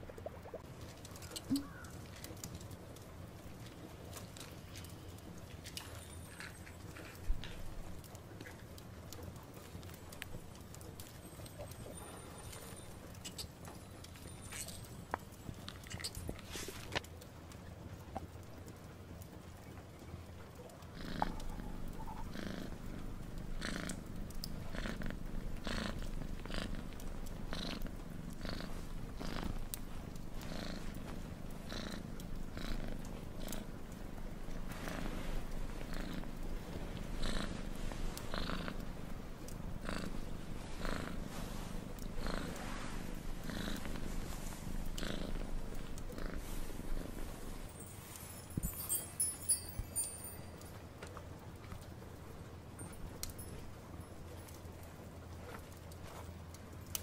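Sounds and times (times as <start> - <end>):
cat purring: 0.2 - 50.8.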